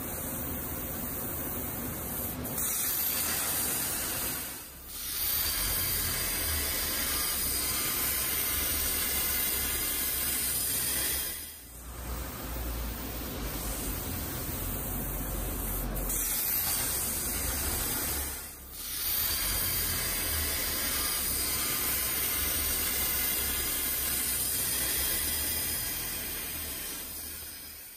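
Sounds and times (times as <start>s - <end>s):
plasma cutter hissing: 0.0s - 27.9s.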